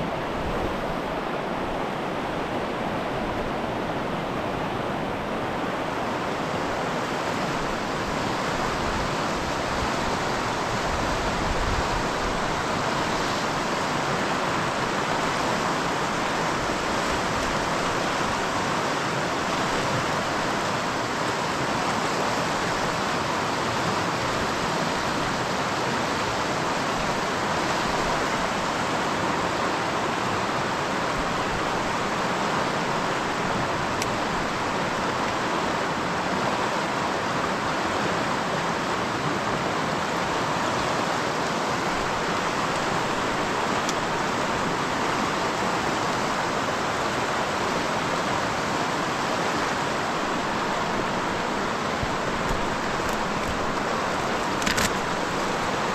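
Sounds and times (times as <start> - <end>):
river rapids rushing: 0.0 - 55.9.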